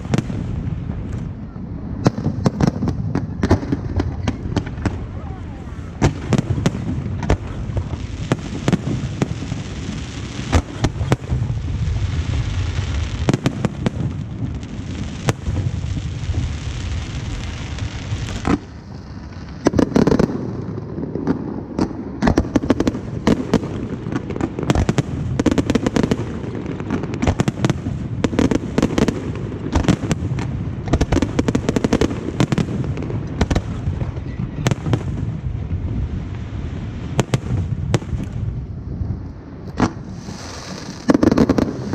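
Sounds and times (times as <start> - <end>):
fireworks cracking and booming: 0.0 - 41.9.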